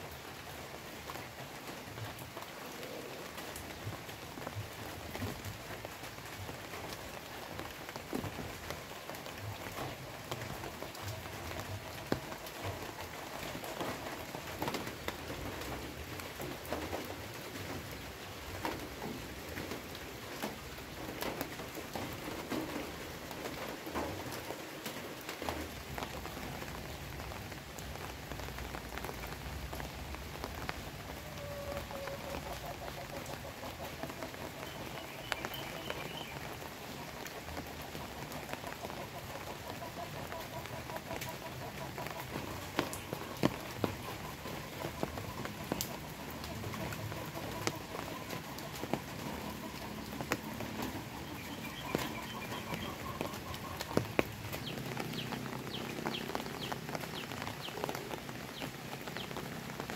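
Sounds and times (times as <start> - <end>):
raindrops tapping on leaves: 0.0 - 59.9
steady rain: 0.0 - 59.9.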